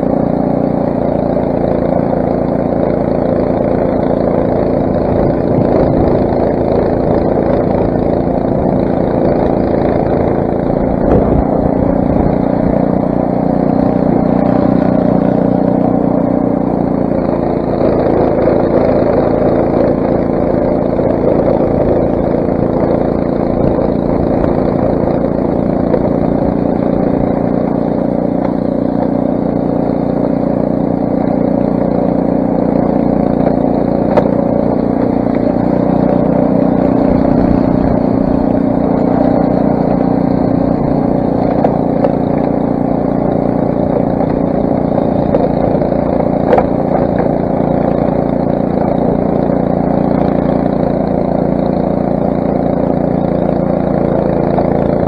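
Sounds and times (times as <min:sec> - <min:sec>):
snowblower engine running: 0:00.0 - 0:55.0.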